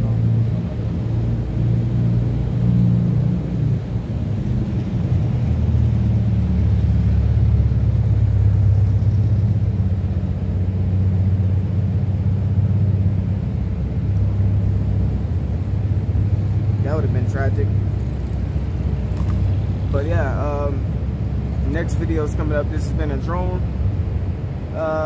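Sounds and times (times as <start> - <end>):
car engine rumbling past: 0.0 - 24.8.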